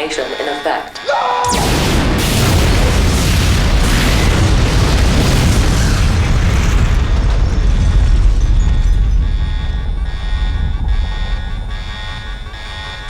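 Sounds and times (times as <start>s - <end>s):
blast with roaring rush: 1.4s - 13.0s.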